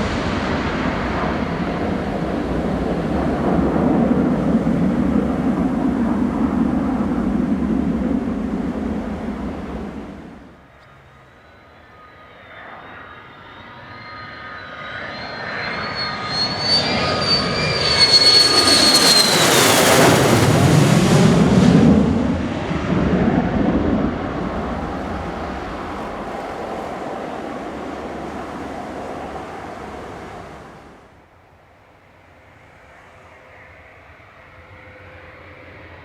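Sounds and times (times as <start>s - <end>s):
military jet flying past: 0.0s - 31.3s.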